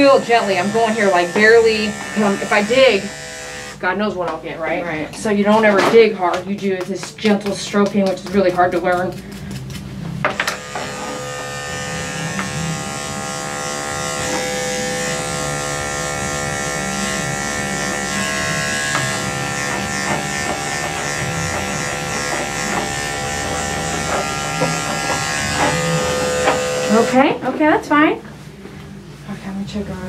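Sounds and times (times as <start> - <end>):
electric clippers humming: 0.0 - 3.9, 5.5 - 27.5.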